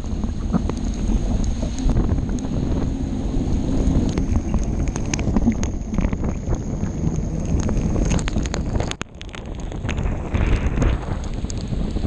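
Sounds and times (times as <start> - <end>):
raindrops tapping on camera: 0.0 - 12.0
wind buffeting microphone: 0.0 - 12.0.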